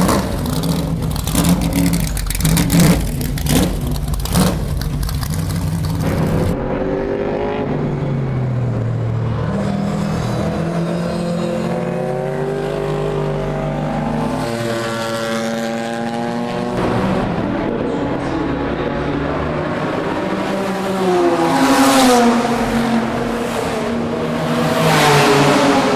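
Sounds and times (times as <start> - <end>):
racing car engines passing: 0.0 - 25.9.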